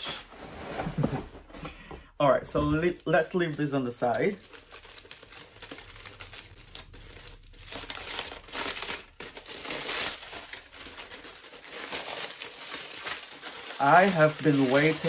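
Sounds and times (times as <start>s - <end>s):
foil crinkling: 2.5s - 15.0s.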